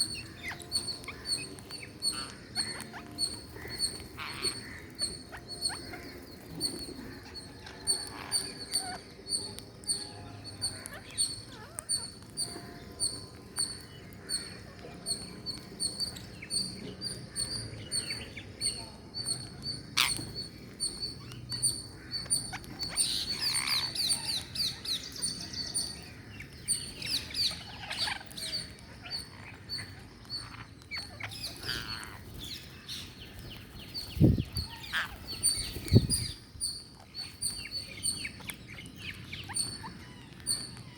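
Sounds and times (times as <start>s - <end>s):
small parrots chirping: 0.0s - 40.9s.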